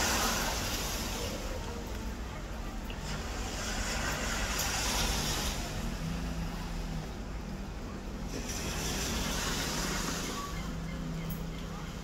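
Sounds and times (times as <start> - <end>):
low engine hum: 0.0 - 12.0
wind and sea hiss: 0.0 - 12.0.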